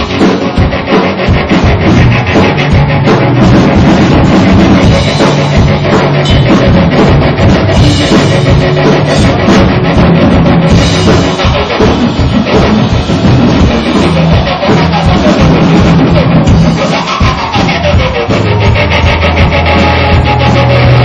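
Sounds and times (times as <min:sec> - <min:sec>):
drum kit beat: 0:00.0 - 0:21.0
loud rock music: 0:00.0 - 0:21.0.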